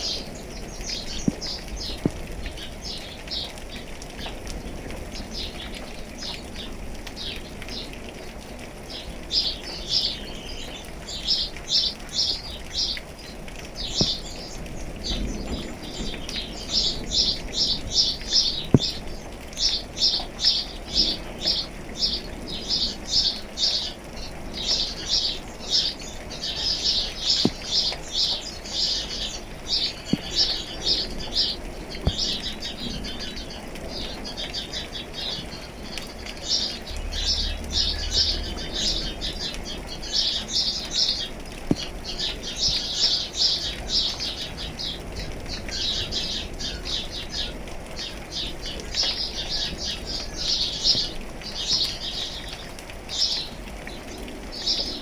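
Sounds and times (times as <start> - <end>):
steady rain: 0.0 - 55.0
water drips: 0.0 - 55.0.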